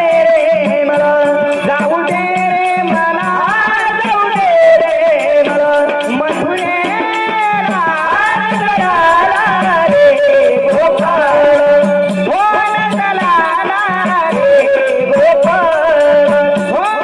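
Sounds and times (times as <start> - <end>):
ornamented singing voice: 0.0 - 17.0
rattling percussion beat: 0.0 - 17.0.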